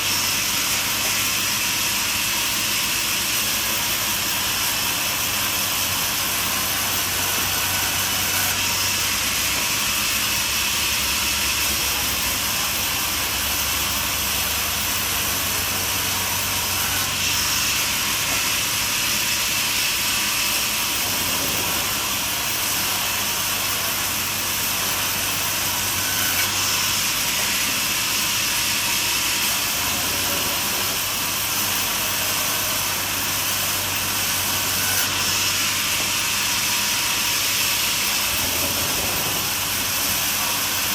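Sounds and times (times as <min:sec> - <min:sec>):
band sawmill sawing log: 0:00.0 - 0:40.9.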